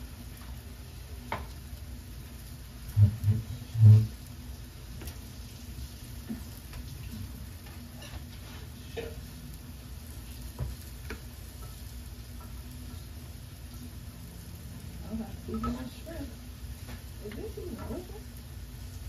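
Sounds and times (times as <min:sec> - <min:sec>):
steaks sizzling on hot stone: 0:00.0 - 0:19.0.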